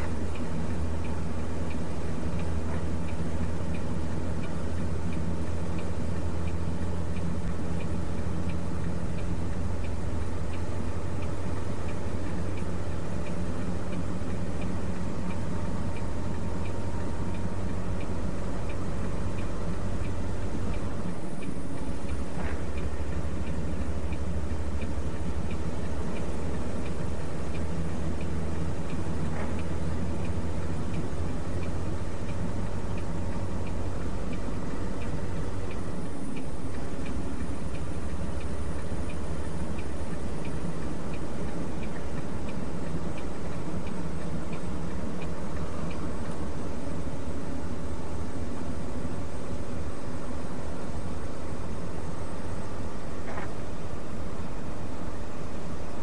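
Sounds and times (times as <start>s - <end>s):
light regular ticking: 0.0s - 56.0s
truck engine droning: 0.0s - 56.0s.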